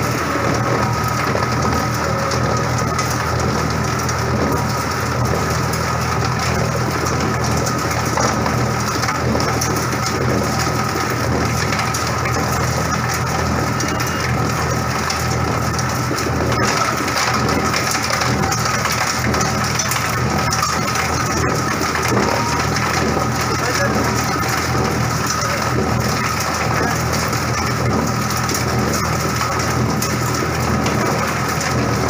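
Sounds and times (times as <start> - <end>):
crackling rattle of grinding: 0.0 - 32.0
grinder motor humming: 0.0 - 32.0.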